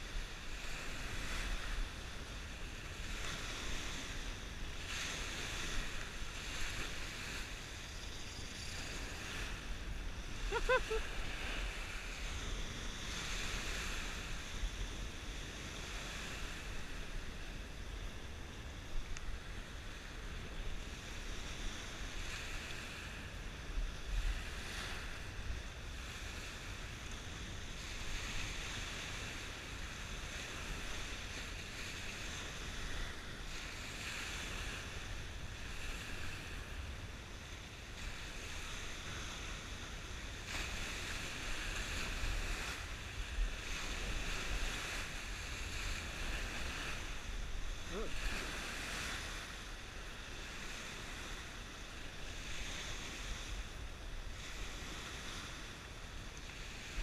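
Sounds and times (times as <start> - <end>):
surf waves breaking on sand: 0.0 - 57.0
wind rumbling on microphone: 0.0 - 57.0.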